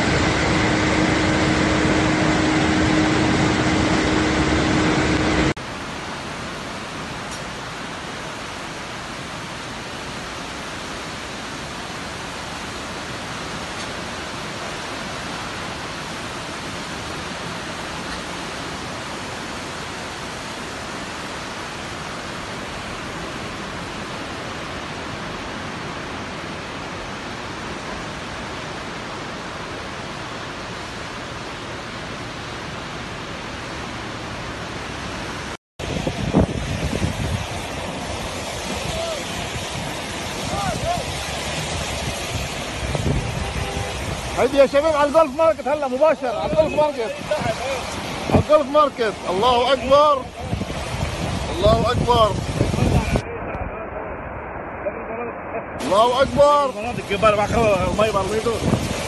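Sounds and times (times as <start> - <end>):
heavy rain and running water: 0.0 - 59.0
uneven rushing water: 0.0 - 59.0.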